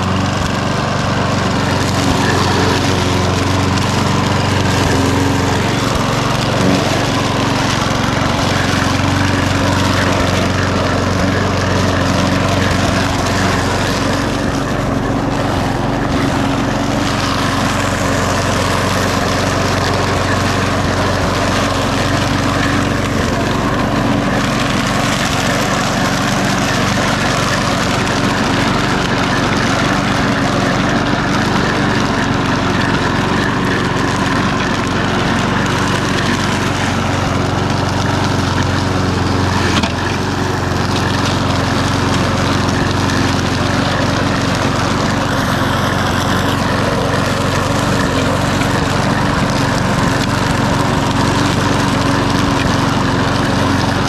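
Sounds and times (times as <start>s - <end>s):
lawnmower engine running: 0.0s - 54.0s.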